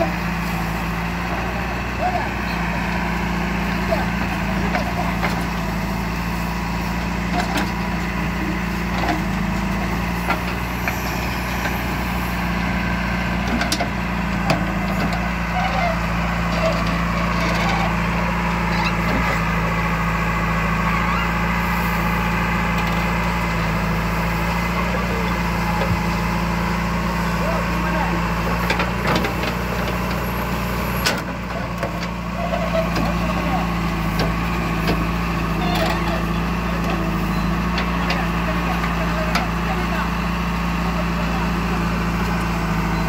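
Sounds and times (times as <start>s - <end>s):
diesel engine running under load: 0.0s - 43.0s.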